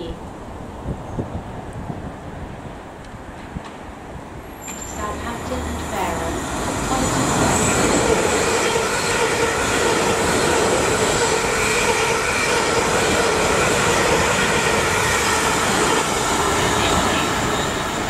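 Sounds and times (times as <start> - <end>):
train whine: 0.0 - 18.0
train wheels rumbling on rail: 0.9 - 18.0.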